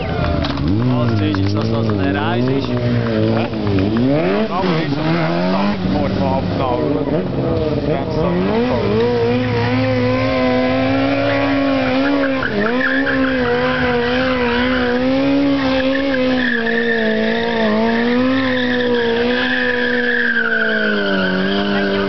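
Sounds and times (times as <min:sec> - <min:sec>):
tyre skidding on asphalt: 0:00.0 - 0:07.7, 0:08.4 - 0:22.0
motorcycle engine at high revs: 0:00.0 - 0:22.0.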